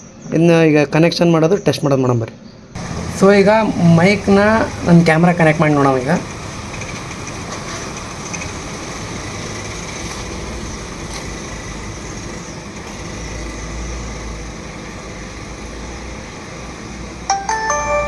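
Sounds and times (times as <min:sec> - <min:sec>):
road traffic rumble: 0:02.6 - 0:18.0.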